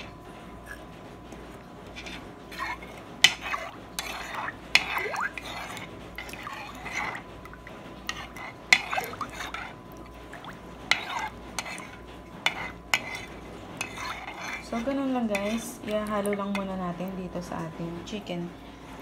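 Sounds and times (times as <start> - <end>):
spoon stirring liquid in a bowl: 0.0 - 18.3.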